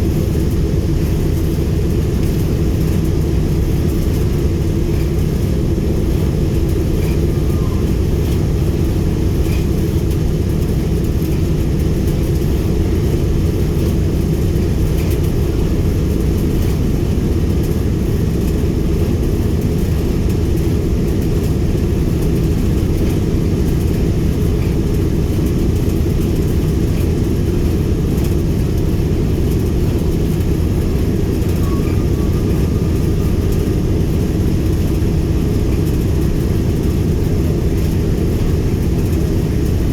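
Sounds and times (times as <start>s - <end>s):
radial aircraft engines droning: 0.0s - 39.9s.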